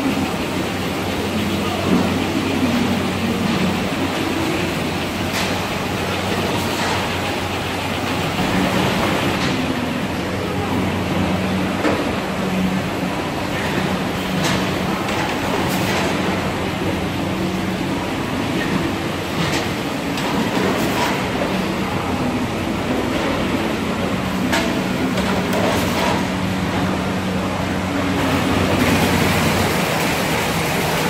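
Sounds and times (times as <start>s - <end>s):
conveyor rumble and hum: 0.0s - 31.0s.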